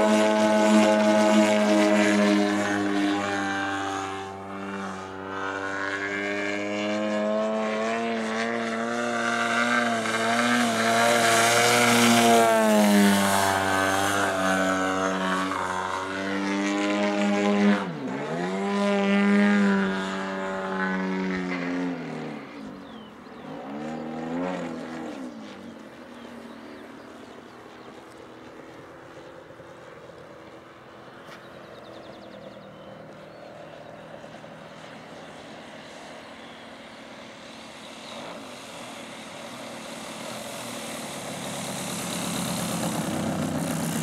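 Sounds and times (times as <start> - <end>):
model airplane engine and propeller: 0.0 - 44.0.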